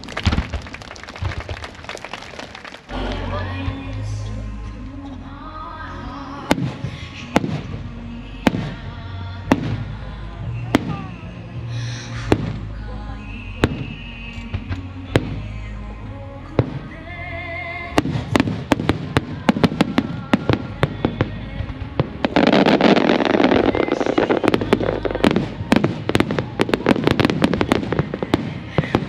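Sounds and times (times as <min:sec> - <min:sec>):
fireworks bangs and crackles: 0:00.0 - 0:04.0, 0:06.5 - 0:15.5, 0:18.0 - 0:29.0
music from loudspeakers: 0:02.9 - 0:29.0.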